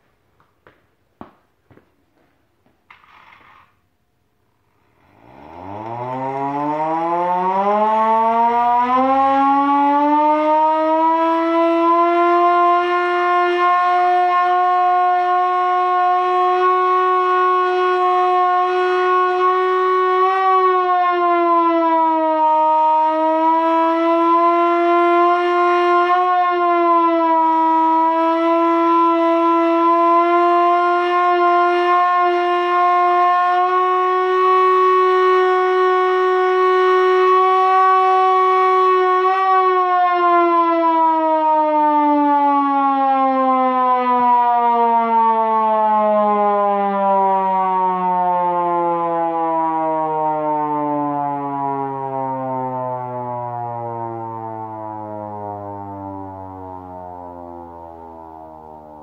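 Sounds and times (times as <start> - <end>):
hand-cranked siren wailing: 4.9 - 59.0.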